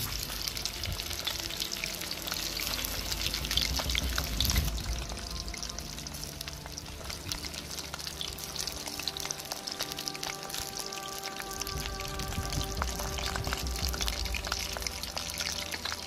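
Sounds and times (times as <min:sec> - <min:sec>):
background music with held notes: 0:00.0 - 0:16.0
food sizzling in hot oil: 0:00.0 - 0:16.0.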